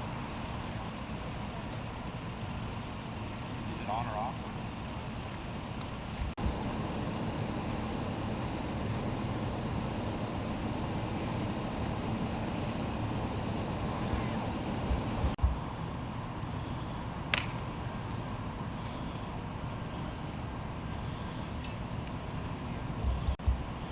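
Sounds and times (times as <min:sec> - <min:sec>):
road noise: 0:00.0 - 0:23.9
vehicle engines idling: 0:00.0 - 0:23.9.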